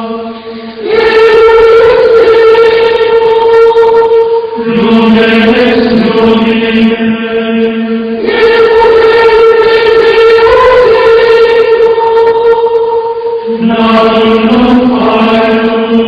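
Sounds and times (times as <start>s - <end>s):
unaccompanied voices chanting: 0.0s - 16.0s.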